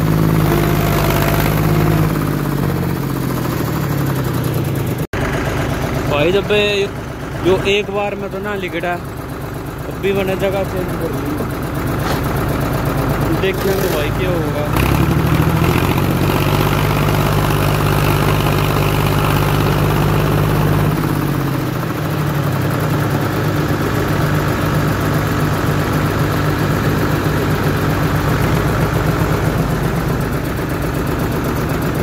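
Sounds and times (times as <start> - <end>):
tractor engines under load: 0.0 - 32.0.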